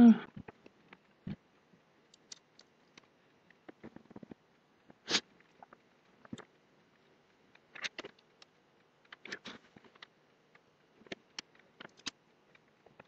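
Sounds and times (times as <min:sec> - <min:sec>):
small clicks and rustles of wires: 0:00.3 - 0:13.0.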